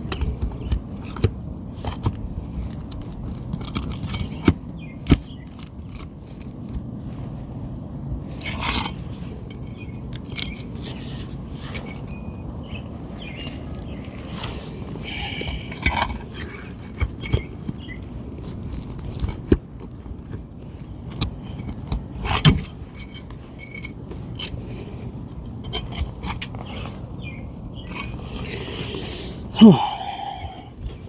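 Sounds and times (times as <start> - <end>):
metal clicks and scrapes: 0.0 - 29.1.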